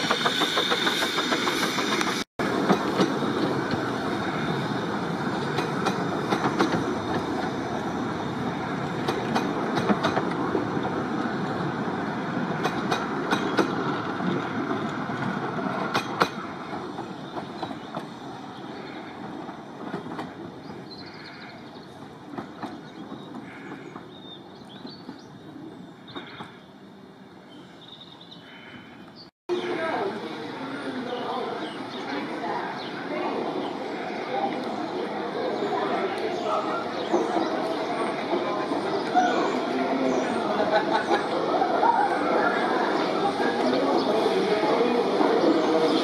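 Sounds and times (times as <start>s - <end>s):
train coaches rolling past: 0.0s - 46.0s.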